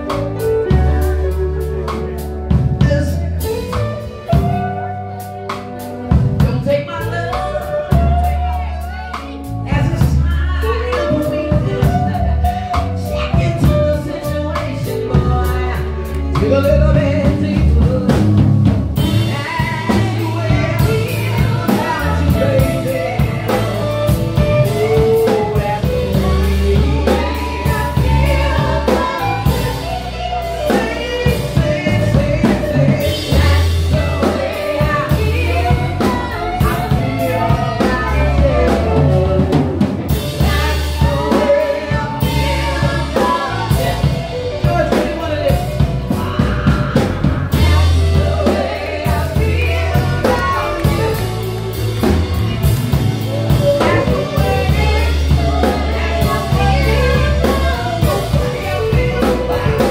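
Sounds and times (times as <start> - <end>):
live band playing: 0.0 - 59.9
person singing: 0.0 - 59.9.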